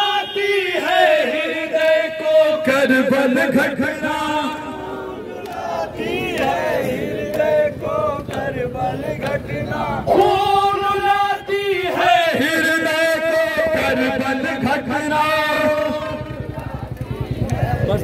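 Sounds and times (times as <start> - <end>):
men chanting over loudspeaker: 0.0 - 18.0.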